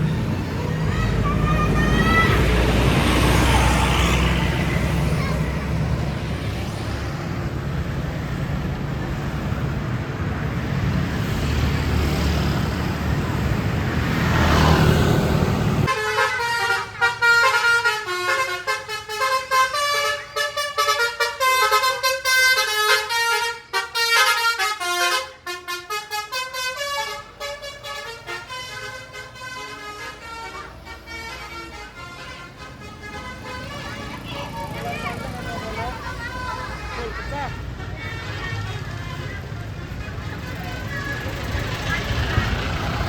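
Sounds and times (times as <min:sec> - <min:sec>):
multi-tone bus horn melody: 0:00.0 - 0:06.2, 0:14.4 - 0:43.0
vehicle engine and road noise: 0:00.0 - 0:43.0.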